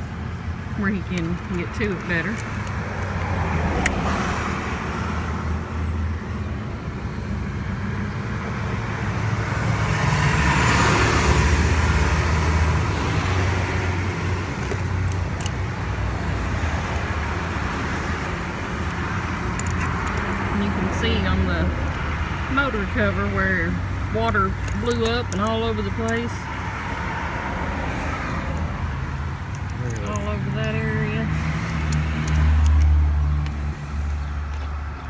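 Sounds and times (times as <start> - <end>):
traffic passing: 0.0 - 35.0
vehicle passing: 0.6 - 35.0.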